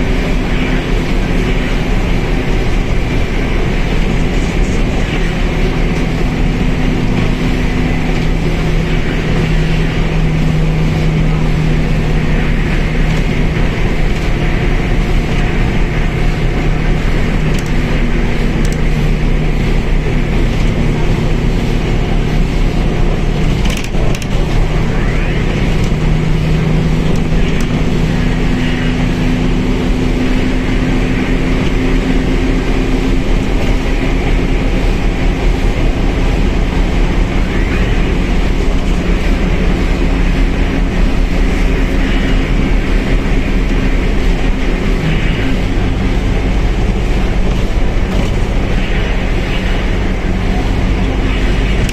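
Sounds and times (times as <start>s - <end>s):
diesel bus engine running: 0.0s - 51.9s.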